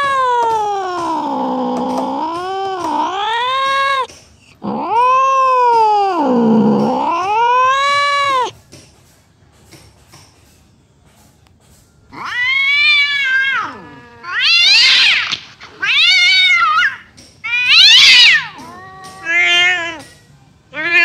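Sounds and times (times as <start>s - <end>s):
cat yowling meows: 0.0s - 8.6s, 12.1s - 21.0s.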